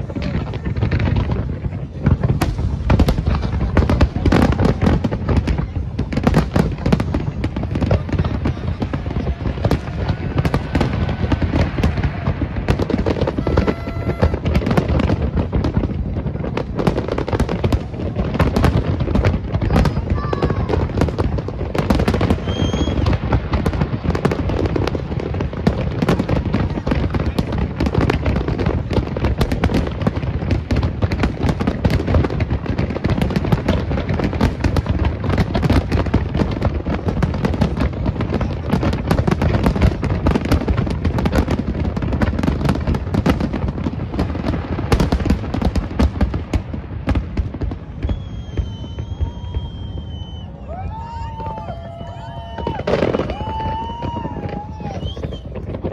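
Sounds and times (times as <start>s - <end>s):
firework booms and crackles: 0.0s - 55.9s.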